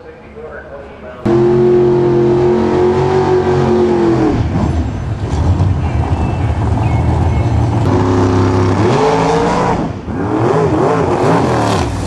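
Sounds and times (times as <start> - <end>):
drag car engine revving: 1.2 - 12.0.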